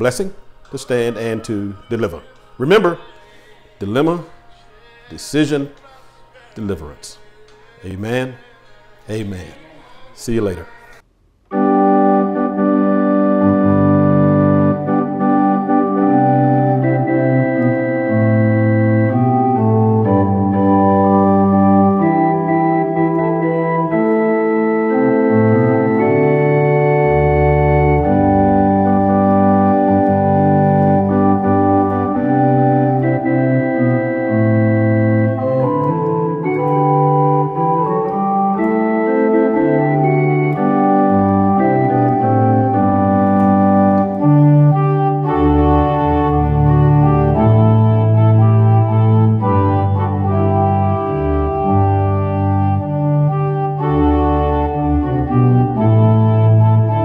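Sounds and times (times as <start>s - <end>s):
organ playing slow chords: 0.0s - 10.6s, 11.5s - 57.0s.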